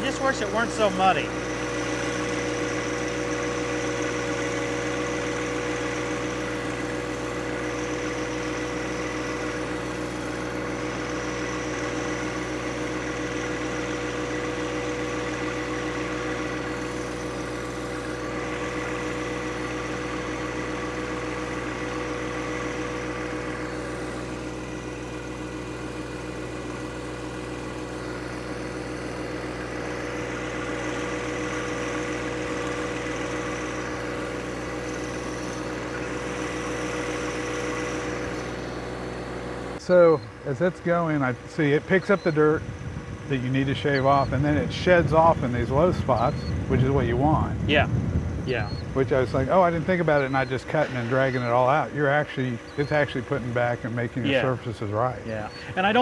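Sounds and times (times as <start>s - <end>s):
diesel tractor engine running: 0.0s - 56.0s
steady whine: 0.0s - 56.0s.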